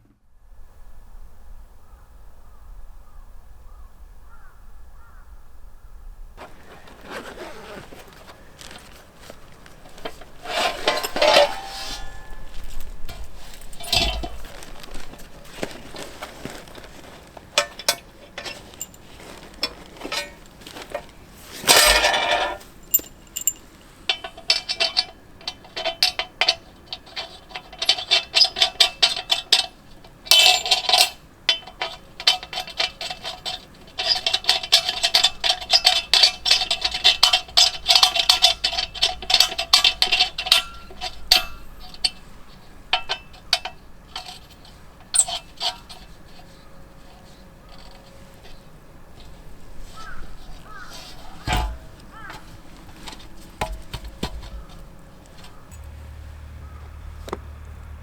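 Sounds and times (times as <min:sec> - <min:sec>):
utensils and dishes clinking: 0:06.4 - 0:29.7, 0:30.3 - 0:55.9.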